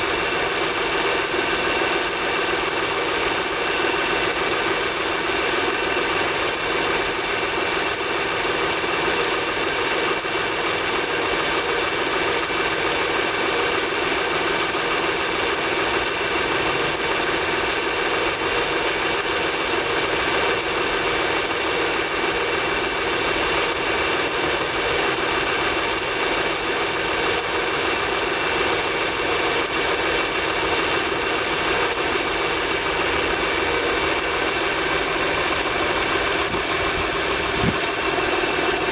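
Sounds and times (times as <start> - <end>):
engine ticking knock: 0.0 - 38.9.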